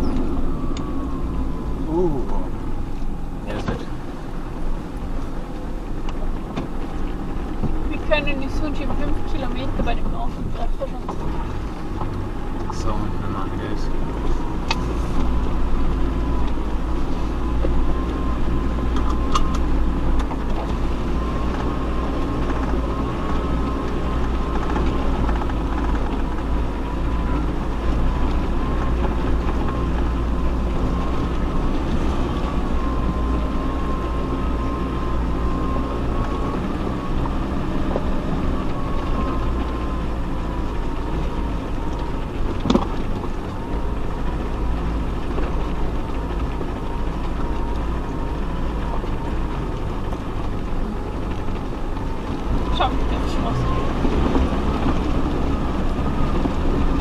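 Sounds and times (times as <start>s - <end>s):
off-road vehicle engine rumble: 0.0s - 57.0s.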